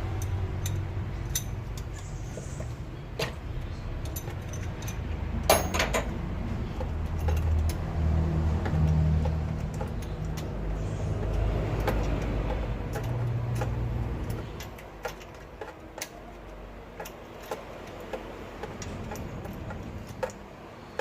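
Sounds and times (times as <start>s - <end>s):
metal tools clinking: 0.1s - 7.8s, 8.6s - 21.0s.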